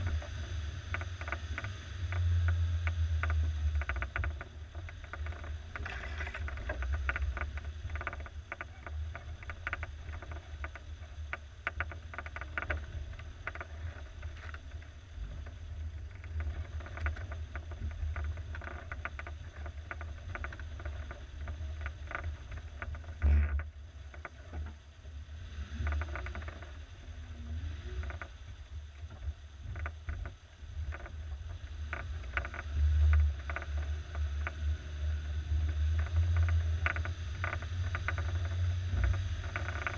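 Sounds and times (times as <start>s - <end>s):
vehicle engine rumble: 0.0s - 39.9s.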